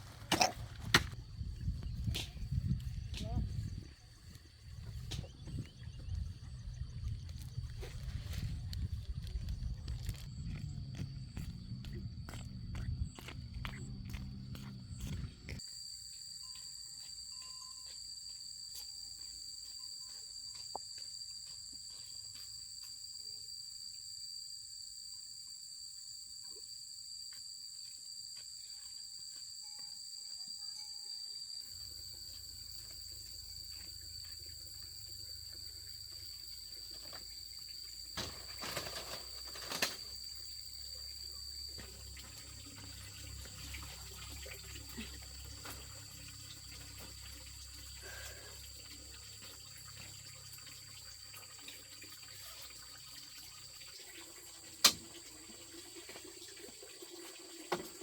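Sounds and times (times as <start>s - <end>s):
high-pitched insect drone: 2.6s - 55.7s.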